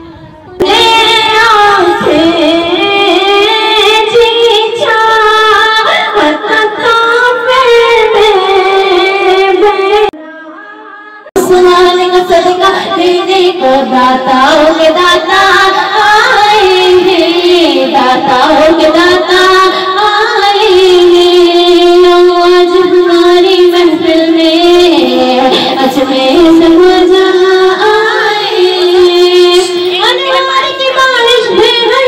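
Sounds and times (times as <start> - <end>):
woman singing into a microphone: 0.0 - 32.0.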